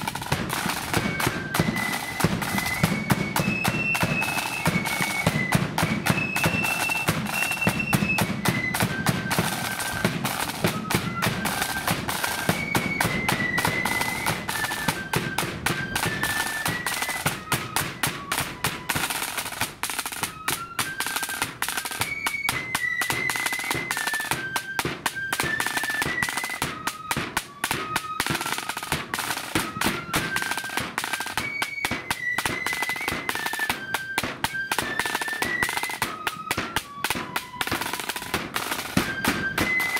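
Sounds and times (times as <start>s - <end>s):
flutes playing a melody: 0.0s - 39.9s
rapid snare drumming: 0.0s - 39.9s.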